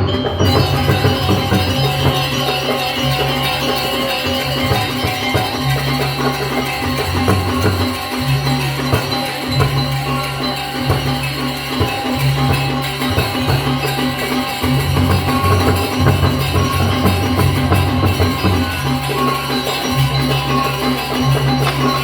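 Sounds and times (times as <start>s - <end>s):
music with percussion and bass: 0.0s - 22.0s.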